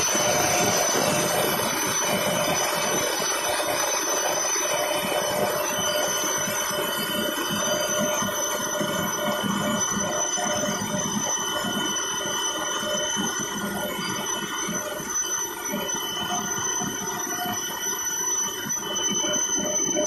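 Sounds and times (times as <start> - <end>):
high turbine whine: 0.0 - 20.0.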